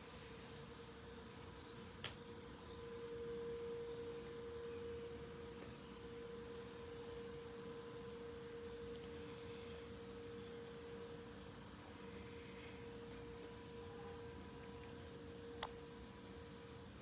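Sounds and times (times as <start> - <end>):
faint steady hum: 0.0 - 17.0
low background noise: 0.0 - 17.0.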